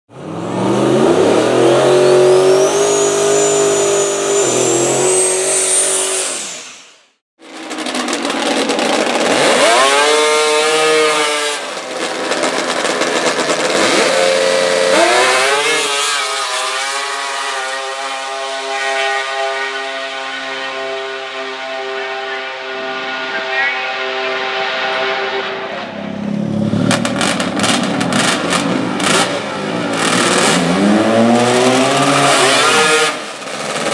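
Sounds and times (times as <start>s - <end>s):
engine revving with high whine: 0.1s - 7.2s, 8.0s - 33.9s
snowmobile engine high-revving: 0.2s - 6.9s, 7.6s - 33.9s.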